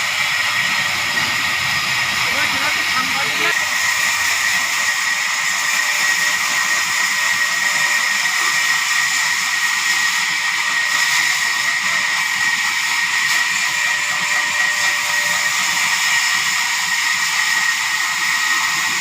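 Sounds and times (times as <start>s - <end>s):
saw whining: 0.0s - 19.0s.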